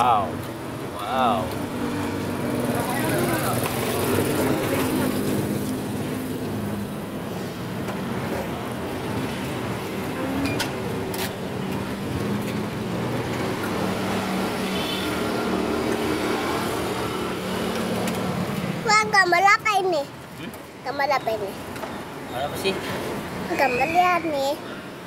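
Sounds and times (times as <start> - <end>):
street noise: 0.0 - 25.0.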